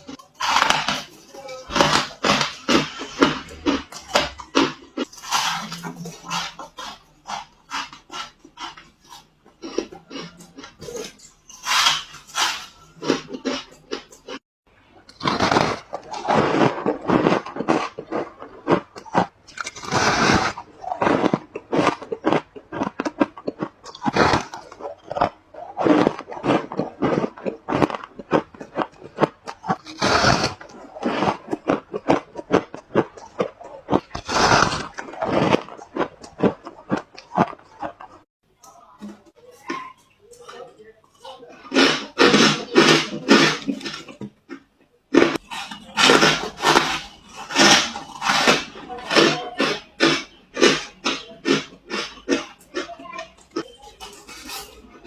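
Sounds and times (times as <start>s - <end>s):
ice crunching being chewed: 0.0s - 14.4s, 15.0s - 55.0s.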